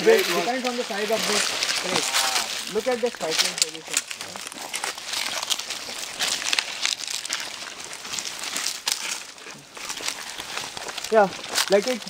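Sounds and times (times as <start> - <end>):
dry leaves crunching: 0.0 - 12.0.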